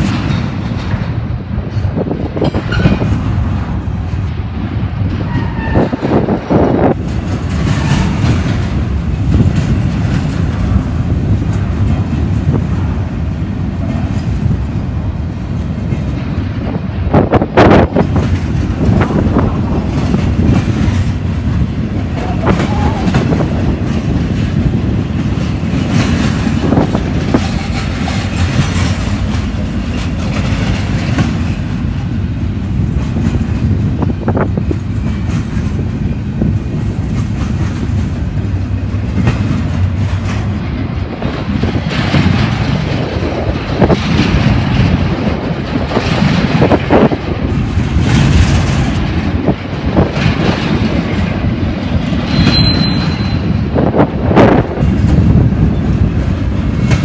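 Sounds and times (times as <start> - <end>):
freight train wheels rumbling on rail: 0.0 - 57.0
train cars knocking: 0.0 - 57.0.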